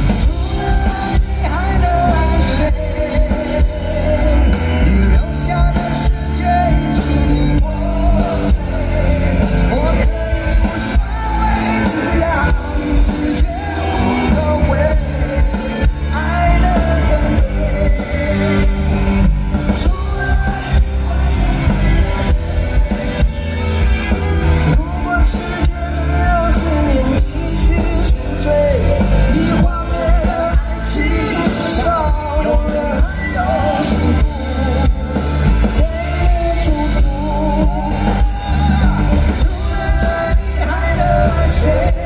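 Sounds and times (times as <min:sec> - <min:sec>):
electric guitars: 0:00.0 - 0:42.0
live rock band music: 0:00.0 - 0:42.0
person singing: 0:00.0 - 0:42.0.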